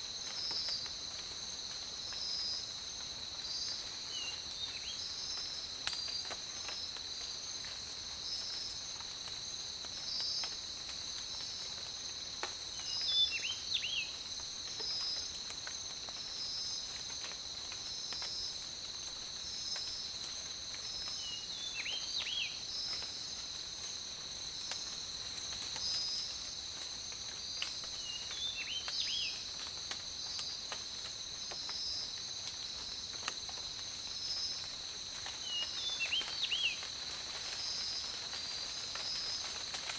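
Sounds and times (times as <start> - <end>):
high-pitched insect chorus: 0.1 - 39.9.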